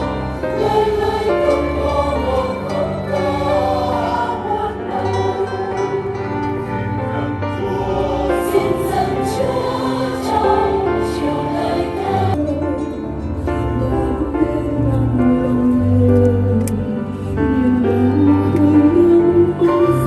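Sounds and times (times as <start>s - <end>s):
choir singing held chords: 0.0s - 20.0s.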